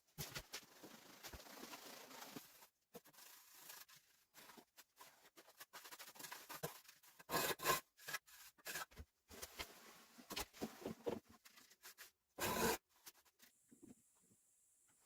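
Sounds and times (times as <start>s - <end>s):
scraping and rubbing noises: 0.1s - 13.5s.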